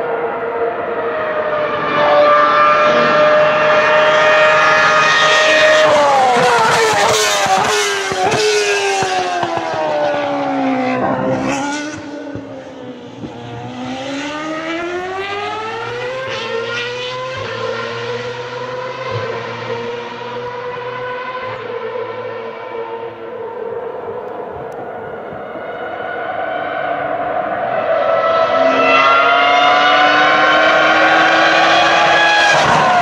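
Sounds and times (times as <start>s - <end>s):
racing car engine revving: 0.1s - 33.0s.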